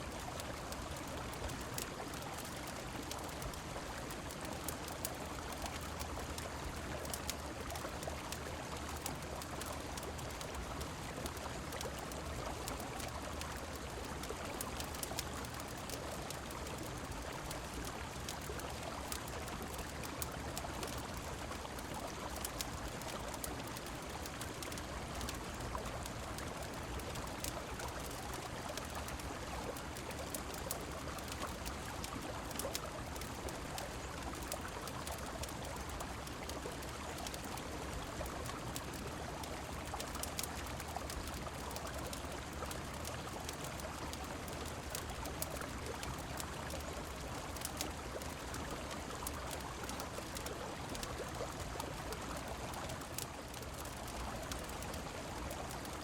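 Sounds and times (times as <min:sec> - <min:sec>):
falling rain: 0:00.0 - 0:56.0
wood fire crackling: 0:00.1 - 0:56.0.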